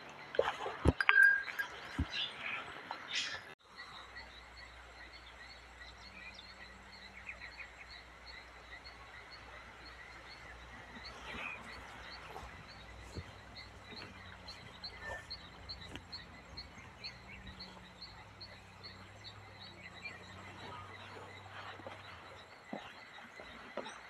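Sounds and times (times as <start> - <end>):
insects humming: 3.7 - 24.0.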